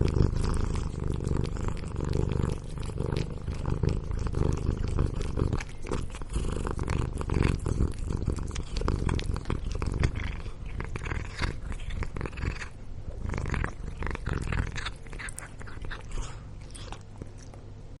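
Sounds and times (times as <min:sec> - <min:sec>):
cat purring: 0:00.0 - 0:17.8.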